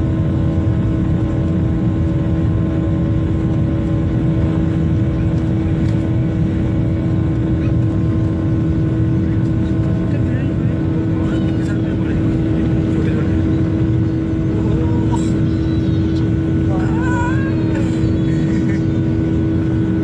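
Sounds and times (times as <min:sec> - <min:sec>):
jet engines humming: 0:00.0 - 0:20.0
low rumble of aircraft rolling: 0:00.0 - 0:20.0.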